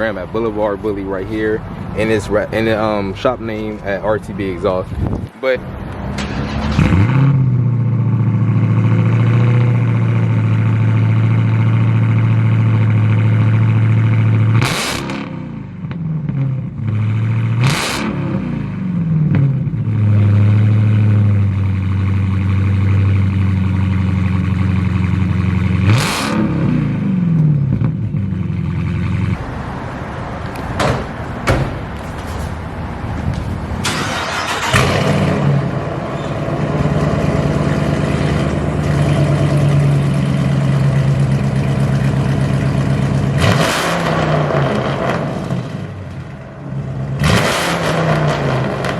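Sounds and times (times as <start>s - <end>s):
car engine idling and revving: 0.0s - 48.9s.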